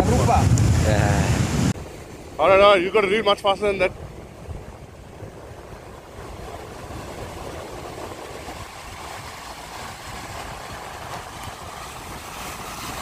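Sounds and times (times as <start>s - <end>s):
surf breaking over rocks: 0.0s - 13.0s
wind buffeting microphone: 0.0s - 13.0s.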